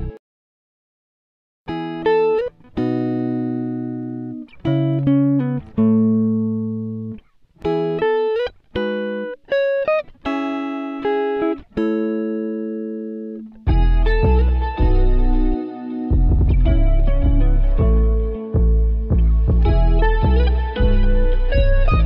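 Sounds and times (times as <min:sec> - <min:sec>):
plucked guitar melody: 0:00.0 - 0:00.2, 0:01.7 - 0:22.0.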